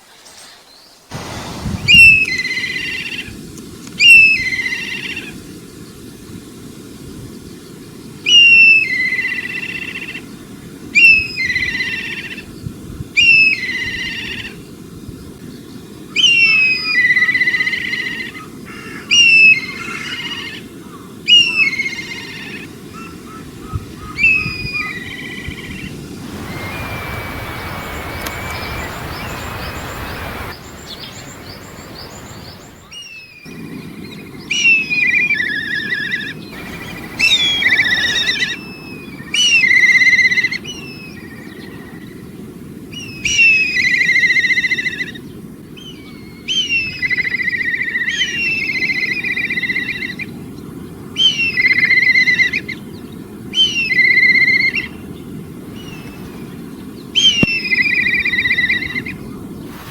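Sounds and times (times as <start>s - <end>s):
bird calling: 0.0s - 6.1s, 8.2s - 12.6s, 13.2s - 14.8s, 16.0s - 50.4s, 51.2s - 59.9s
low background hiss: 0.0s - 54.9s.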